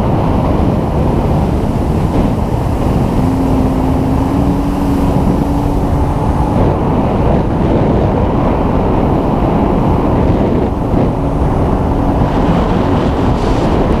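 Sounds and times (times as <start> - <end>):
small vehicle engine running: 0.0 - 14.0
wind on microphone: 0.0 - 14.0.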